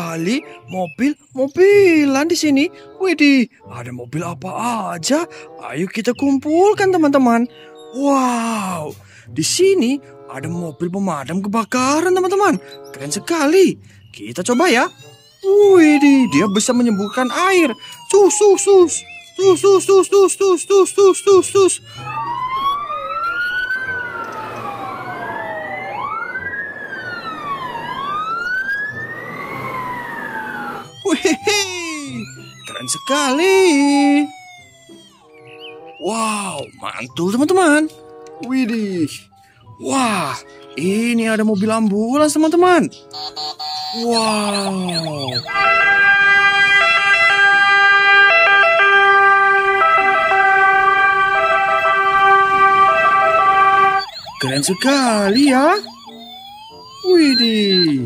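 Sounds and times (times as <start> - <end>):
fire truck sirens wailing: 9.5 - 58.0.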